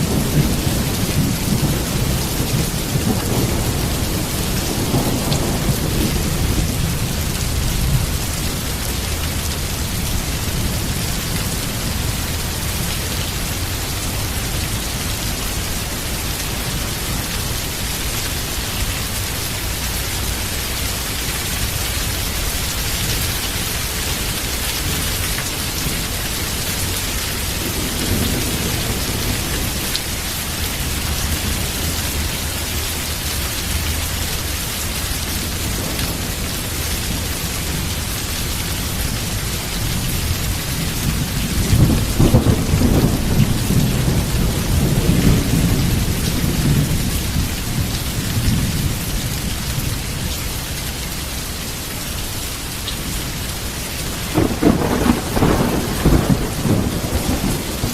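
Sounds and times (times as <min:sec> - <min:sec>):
thunder rumbling: 0:00.0 - 0:19.0, 0:19.6 - 0:34.5, 0:35.3 - 0:50.2, 0:53.3 - 0:57.9
heavy rain falling: 0:00.0 - 0:57.9.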